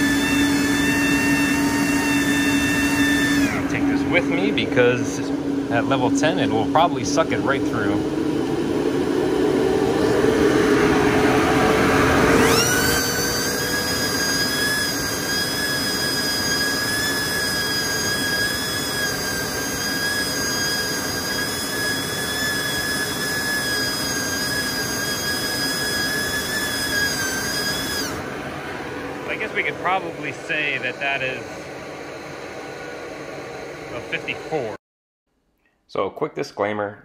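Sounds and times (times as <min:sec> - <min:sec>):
duct fan rushing air: 0:00.0 - 0:34.8
high whine of spinning vane: 0:00.0 - 0:34.8.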